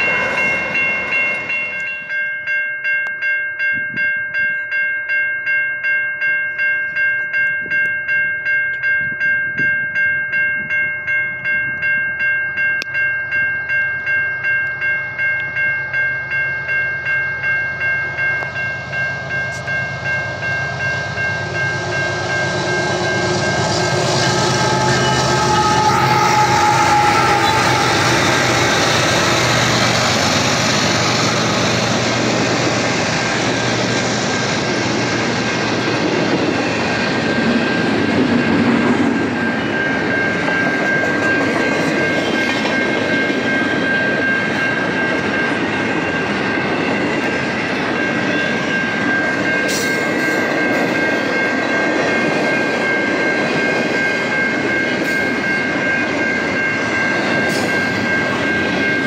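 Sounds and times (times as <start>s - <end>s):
freight train rumbling and rattling: 0.0s - 2.2s, 12.9s - 59.0s
steady high tone: 0.0s - 59.0s.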